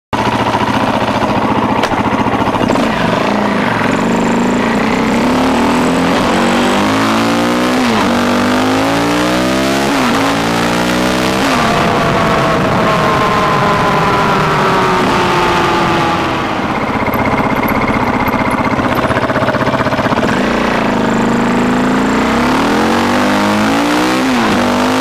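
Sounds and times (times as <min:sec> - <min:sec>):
dirt bike engine revving: 0:00.2 - 0:25.0.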